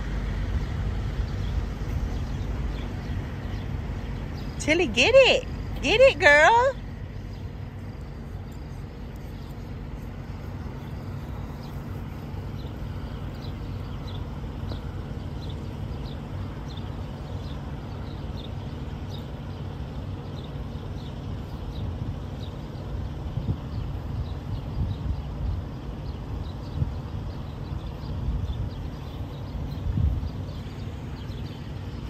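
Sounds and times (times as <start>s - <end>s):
low rumble of traffic: 0.0s - 32.0s.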